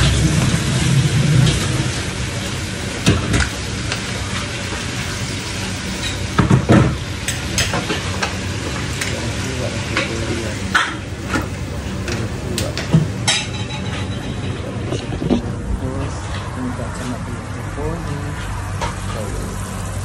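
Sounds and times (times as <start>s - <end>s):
food sizzling in a frying pan: 0.0s - 14.6s, 18.3s - 20.0s.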